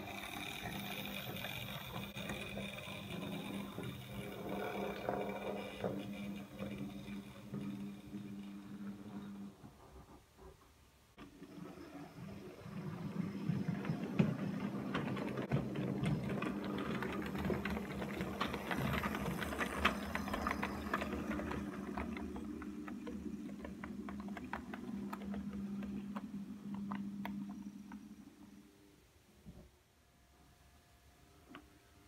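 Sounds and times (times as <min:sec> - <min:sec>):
wheels clicking over rail joints: 0:00.0 - 0:09.4, 0:11.2 - 0:28.6
model train motor hum: 0:00.0 - 0:09.7, 0:11.2 - 0:28.6.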